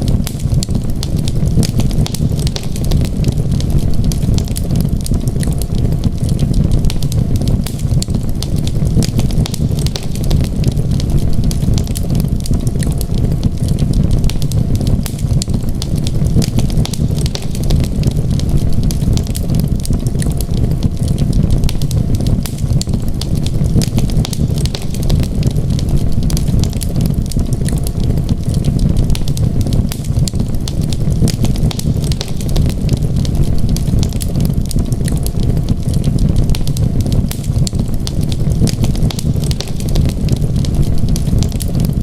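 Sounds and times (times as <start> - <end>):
low rumble: 0.0 - 42.0
wood fire crackling: 0.0 - 42.0.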